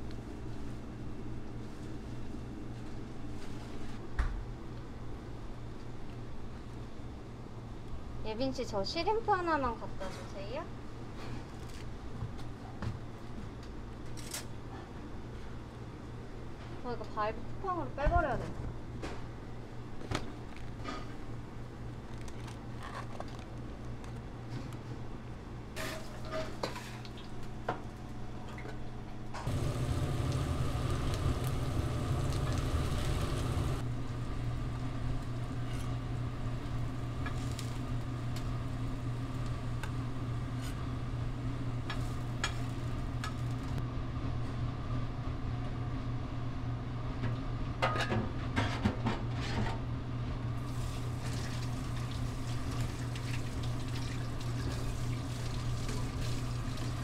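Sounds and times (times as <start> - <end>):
steady mechanical hum: 0.0 - 57.0.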